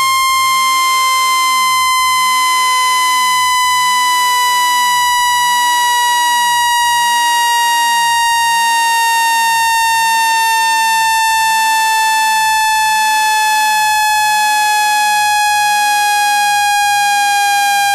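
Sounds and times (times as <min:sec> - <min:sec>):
buzzy electronic tone: 0:00.0 - 0:17.9.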